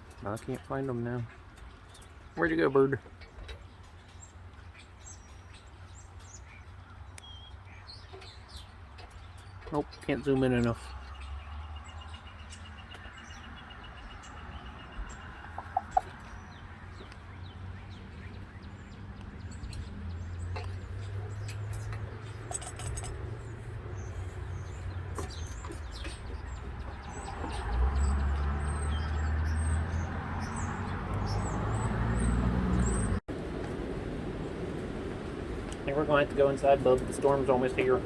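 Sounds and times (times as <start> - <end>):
birds chirping and singing: 0.0 - 33.2.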